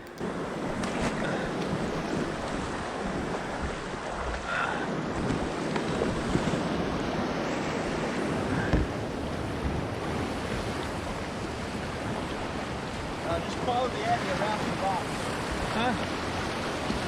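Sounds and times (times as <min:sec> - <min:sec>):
rushing whitewater: 0:00.0 - 0:17.0
wind buffeting microphone: 0:00.0 - 0:17.0.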